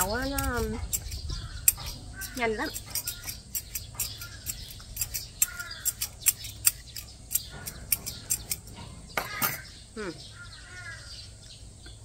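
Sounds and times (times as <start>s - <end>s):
peeler scraping fruit skin: 0.0s - 9.6s.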